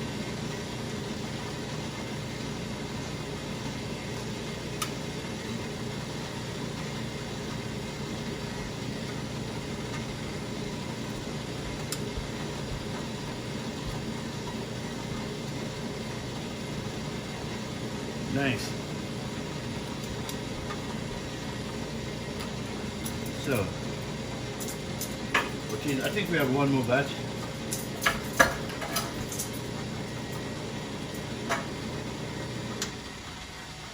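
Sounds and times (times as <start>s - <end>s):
rushing kitchen noise: 0.5s - 33.9s.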